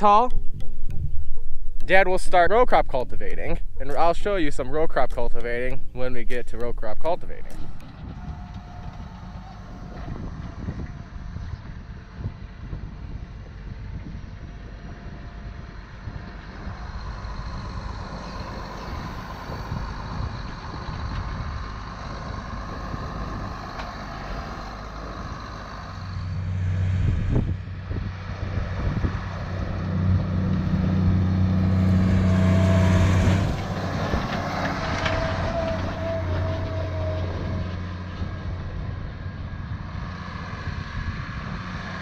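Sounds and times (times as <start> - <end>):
tractor engine running under load: 1.8 - 42.0.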